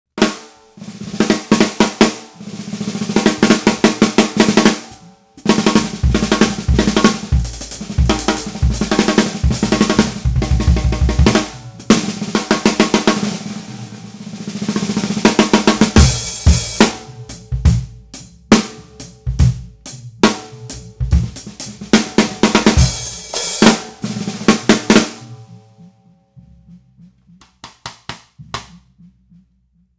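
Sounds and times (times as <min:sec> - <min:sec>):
snare drum rolls and accents: 0:00.2 - 0:29.9.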